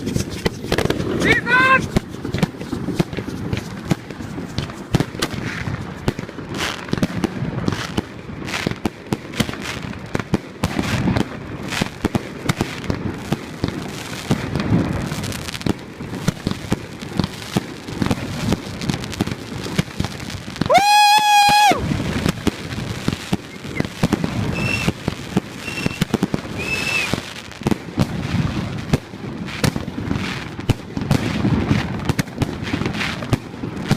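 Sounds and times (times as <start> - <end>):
fireworks bangs and cracks: 0.0 - 33.9.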